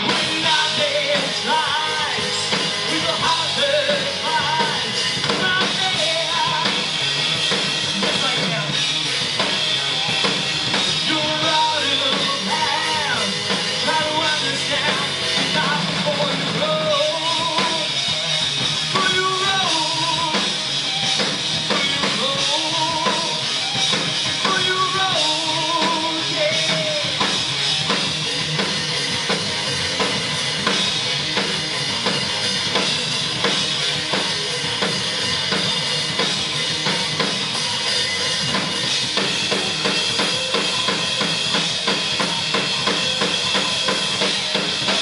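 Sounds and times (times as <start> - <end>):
distorted guitars: 0.0 - 45.0
drum kit with driving bass drum: 0.0 - 45.0.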